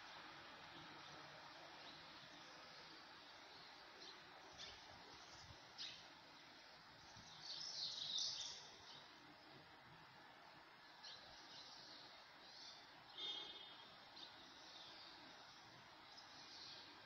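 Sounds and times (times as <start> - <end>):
faint birds chirping: 0.0 - 17.0
low hiss: 0.0 - 17.0.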